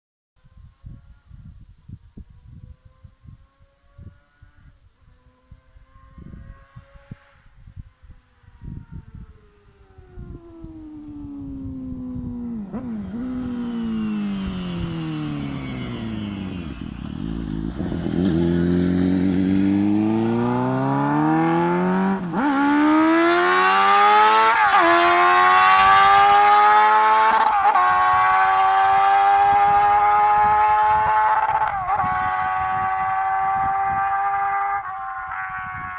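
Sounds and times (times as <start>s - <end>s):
motorcycle engine revving: 2.6s - 35.9s.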